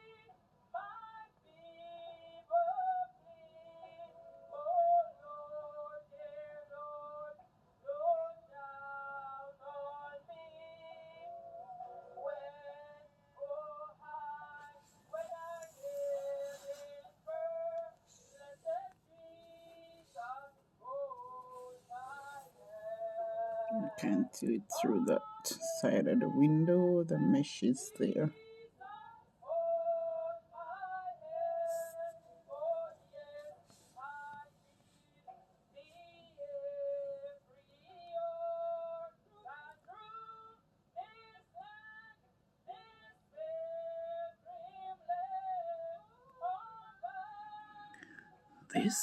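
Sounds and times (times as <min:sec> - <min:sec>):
person singing: 0:00.8 - 0:34.6, 0:43.4 - 0:49.0.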